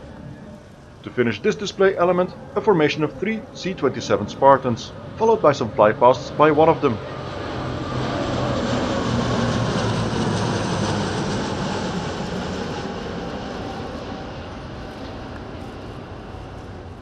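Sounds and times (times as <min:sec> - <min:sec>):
turboprop plane flying past: 0:00.0 - 0:17.0.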